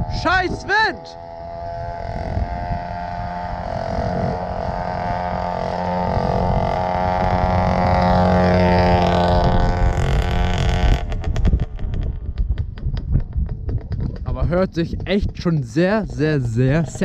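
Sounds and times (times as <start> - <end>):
moped engine running: 0.0 - 17.0
wind buffeting microphone: 0.0 - 17.0.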